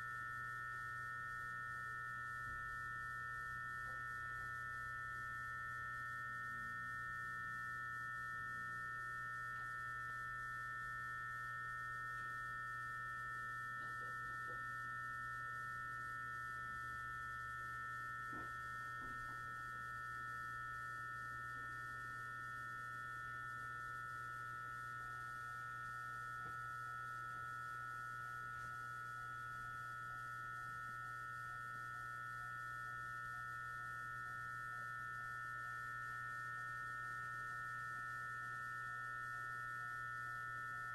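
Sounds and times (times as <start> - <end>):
electric train whine and hum: 0.0 - 40.9.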